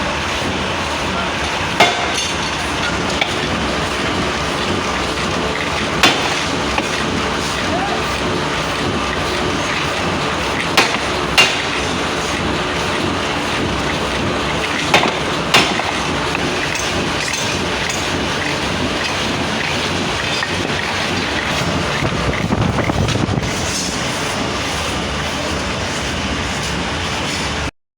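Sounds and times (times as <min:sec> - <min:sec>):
machinery noise: 0:00.0 - 0:27.7.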